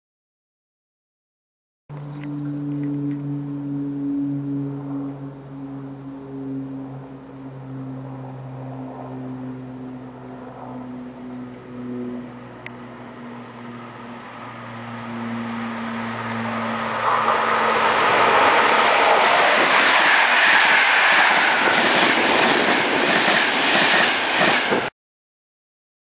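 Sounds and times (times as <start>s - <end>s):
train passing at speed: 2.0s - 24.9s.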